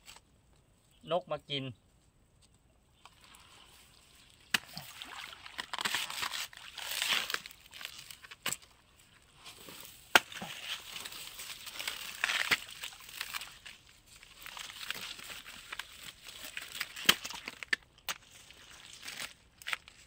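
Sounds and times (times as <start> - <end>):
blade rustling through dry grass: 3.0 - 20.0.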